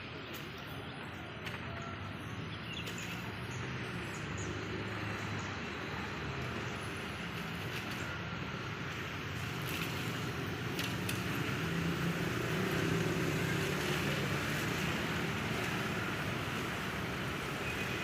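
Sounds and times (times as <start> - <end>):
vehicle engine noise: 0.0 - 18.0.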